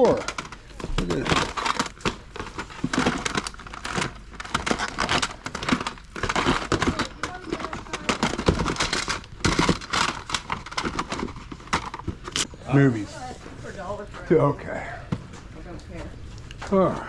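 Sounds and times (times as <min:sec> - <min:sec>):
plastic cases clacking: 0:00.0 - 0:16.8.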